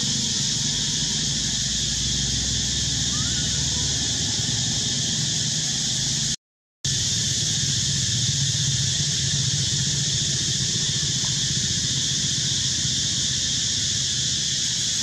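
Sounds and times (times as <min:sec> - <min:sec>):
even high hiss: 0:00.0 - 0:15.0.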